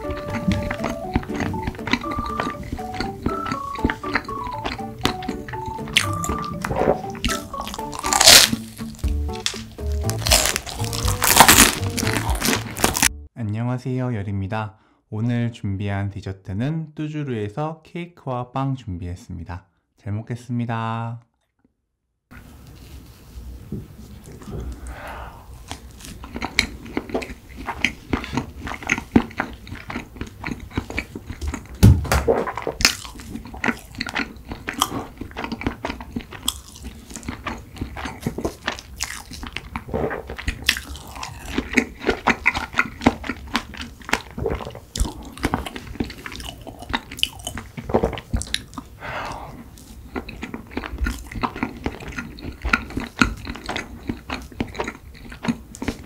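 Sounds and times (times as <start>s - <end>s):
biting and wet chewing: 0.0s - 13.2s, 24.0s - 56.0s.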